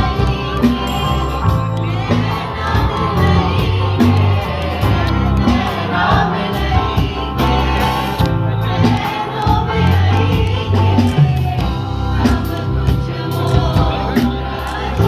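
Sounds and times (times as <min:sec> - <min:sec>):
deep bass notes: 0:00.0 - 0:15.0
drum kit: 0:00.0 - 0:15.0
voices singing together: 0:00.0 - 0:15.0.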